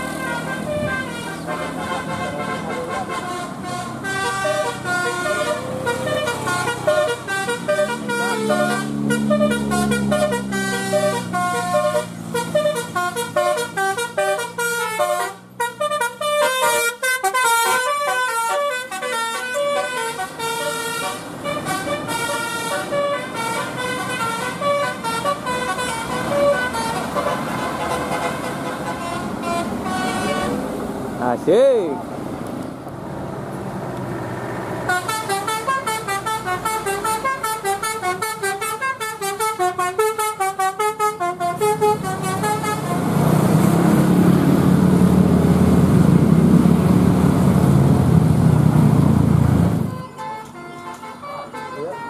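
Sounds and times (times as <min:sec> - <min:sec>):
bus multi-tone horn tune: 0:00.0 - 0:30.7, 0:34.8 - 0:45.8, 0:49.6 - 0:52.0.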